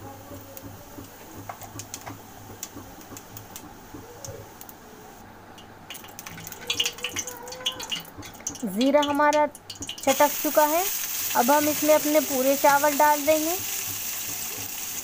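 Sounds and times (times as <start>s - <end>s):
seeds crackling in hot oil: 0.0s - 15.0s.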